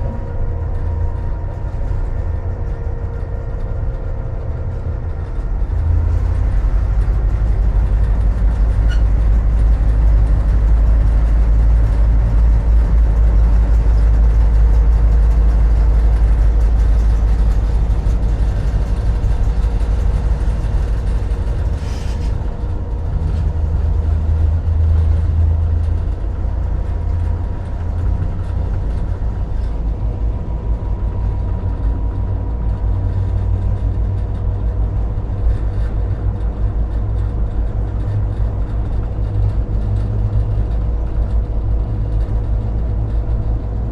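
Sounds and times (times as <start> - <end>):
diesel locomotive engine running: 0.0 - 43.9.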